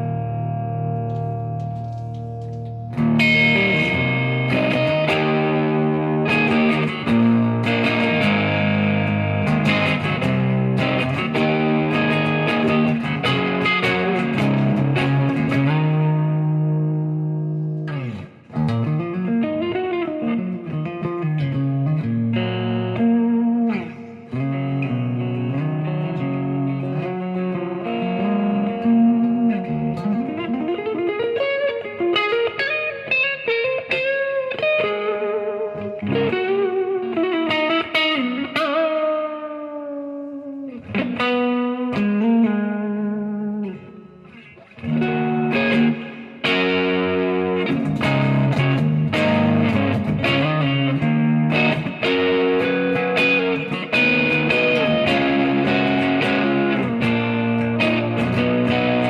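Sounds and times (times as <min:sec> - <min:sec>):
overdriven electric guitar noodling: 0:00.0 - 0:59.0.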